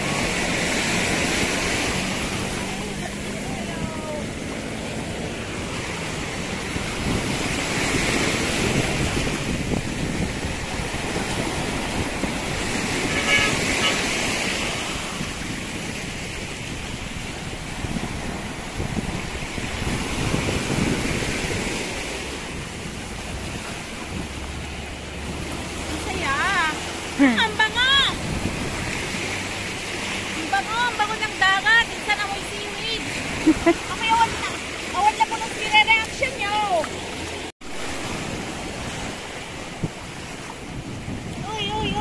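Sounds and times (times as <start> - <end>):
small waves on shore: 0.0 - 42.0
wind buffeting microphone: 0.0 - 42.0.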